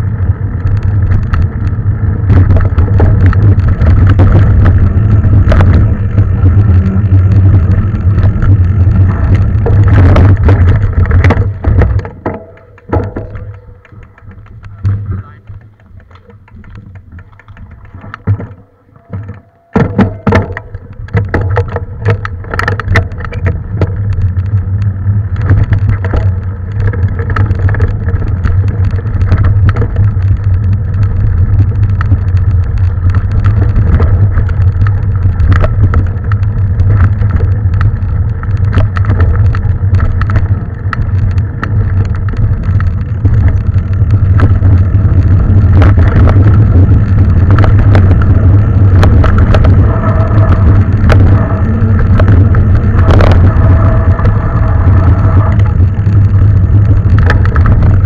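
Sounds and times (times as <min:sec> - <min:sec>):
bike rattling over bumps: 0:00.0 - 0:58.0
wind buffeting microphone: 0:00.0 - 0:58.0.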